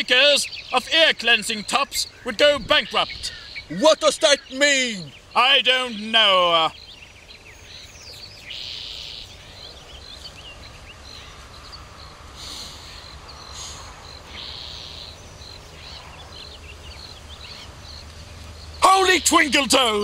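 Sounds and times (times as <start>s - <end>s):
buzzy bird trills: 0.0s - 20.0s
small birds chirping: 0.0s - 20.0s
steady low hum: 0.0s - 20.0s.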